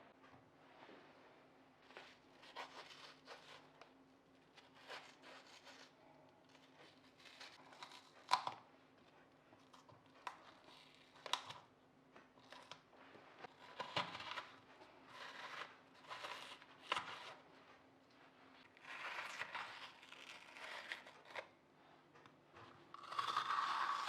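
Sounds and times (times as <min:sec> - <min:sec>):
rustling and crinkling: 0:00.6 - 0:22.9.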